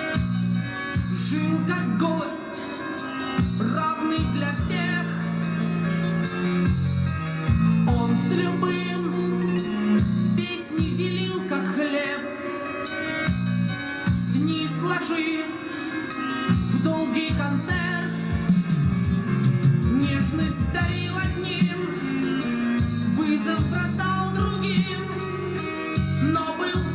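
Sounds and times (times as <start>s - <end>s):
rock music with guitar and bass: 0.0s - 26.9s.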